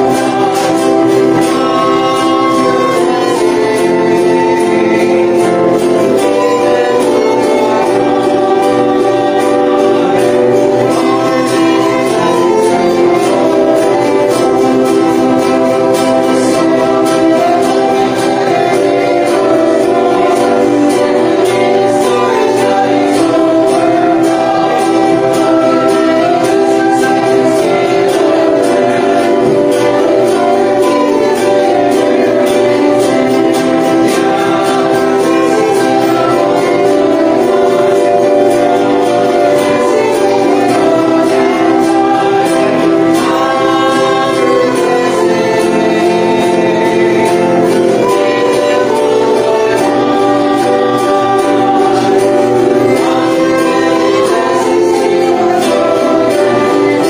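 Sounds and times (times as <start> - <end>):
group singing a hymn: 0.0 - 57.0
instrumental accompaniment: 0.0 - 57.0.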